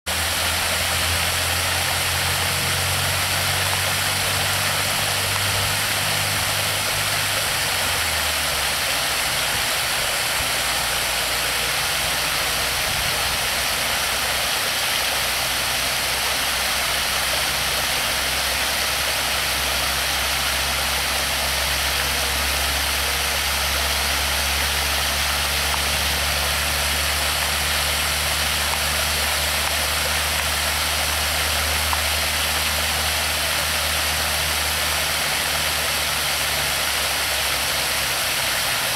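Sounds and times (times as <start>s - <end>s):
water rushing over weir: 0.1s - 38.9s.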